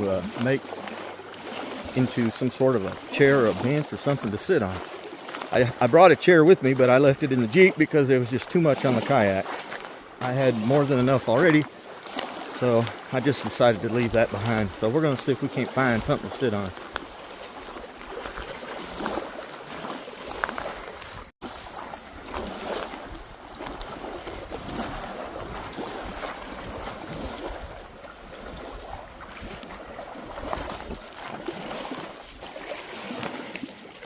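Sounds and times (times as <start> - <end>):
waves lapping on rocky shore: 0.0 - 34.0.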